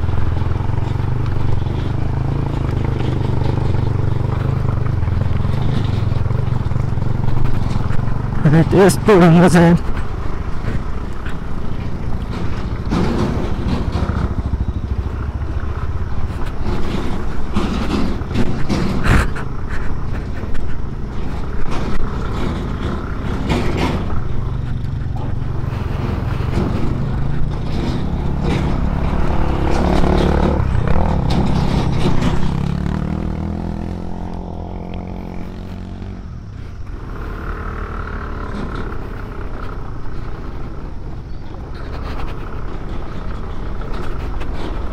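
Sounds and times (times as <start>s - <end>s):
scooter engine running: 0.0s - 44.9s
stones knocking under wheels: 0.1s - 44.9s.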